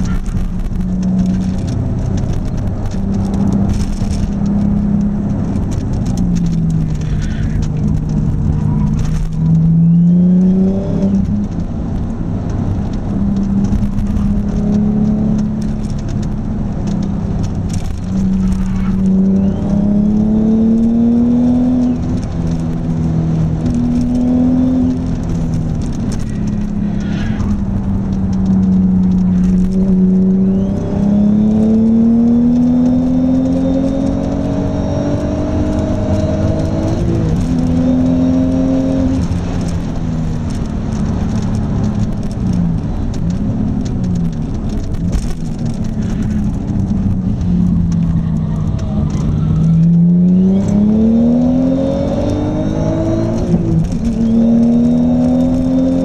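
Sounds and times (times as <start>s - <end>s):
car engine revving through gears: 0.0s - 56.0s
road and tyre noise: 0.0s - 56.0s.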